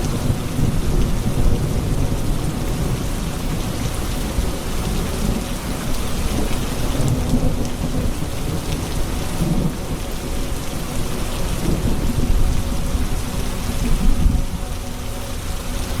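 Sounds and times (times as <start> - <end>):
rolling thunder: 0.0 - 15.6
heavy rain patter: 0.0 - 16.0.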